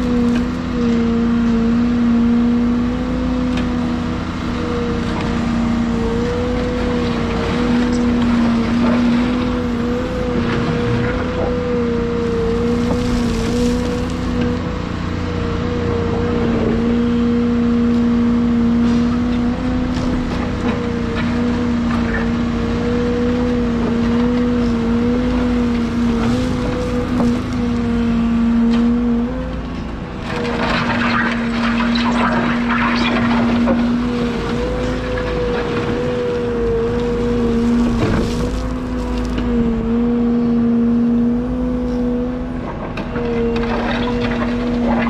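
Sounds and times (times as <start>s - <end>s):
excavator engine droning: 0.0s - 45.0s.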